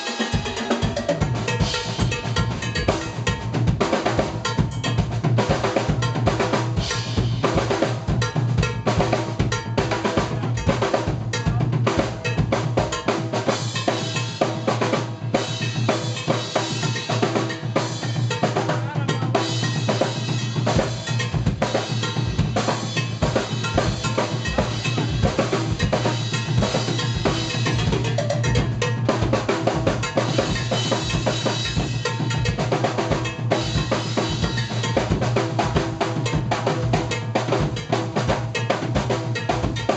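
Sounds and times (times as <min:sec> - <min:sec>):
drum kit groove with cowbell: 0:00.0 - 0:39.9
jazz-funk band playing: 0:00.0 - 0:39.9.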